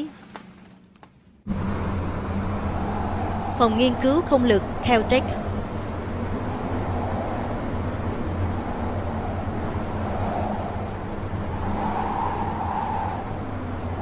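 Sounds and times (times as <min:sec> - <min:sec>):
steady low hum: 0:00.0 - 0:14.0
even rushing noise: 0:01.5 - 0:14.0.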